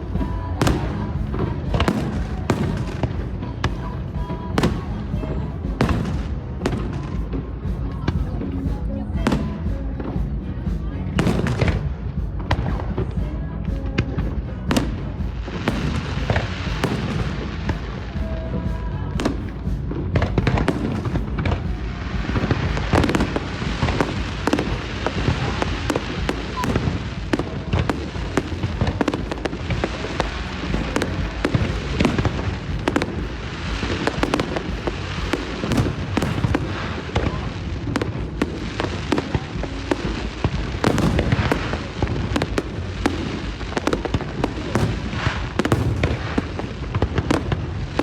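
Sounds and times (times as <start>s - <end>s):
firework crackle: 0.0s - 48.0s.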